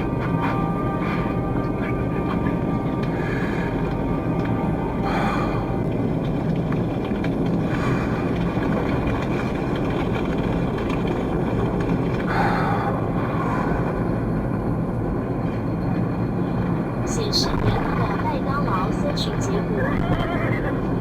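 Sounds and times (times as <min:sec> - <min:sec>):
car engine rumble: 0:00.0 - 0:21.0
road noise inside car: 0:00.0 - 0:21.0.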